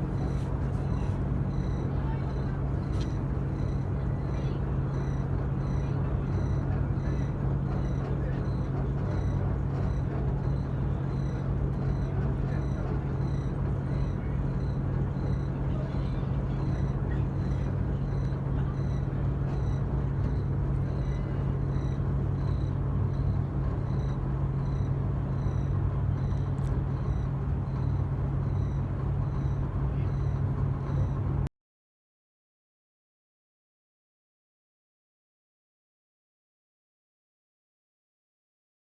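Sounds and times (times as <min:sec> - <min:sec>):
boat engine humming: 0:00.0 - 0:31.5.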